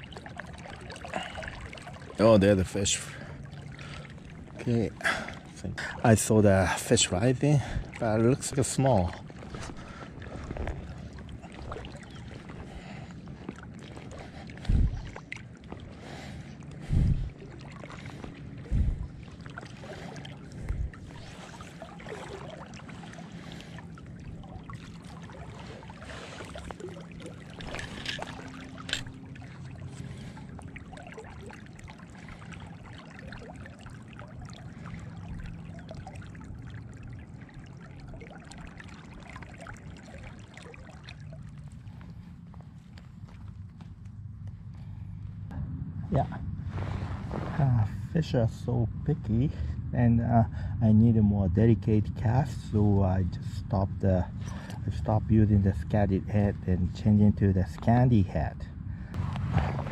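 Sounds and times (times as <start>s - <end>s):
river water lapping: 0.0s - 59.9s.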